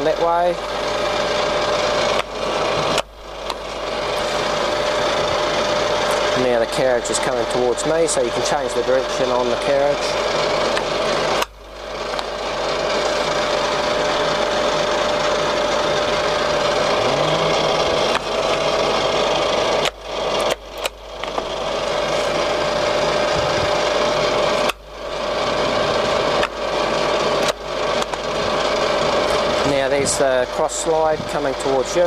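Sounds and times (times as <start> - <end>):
lathe whirring with whine: 0.0 - 32.0.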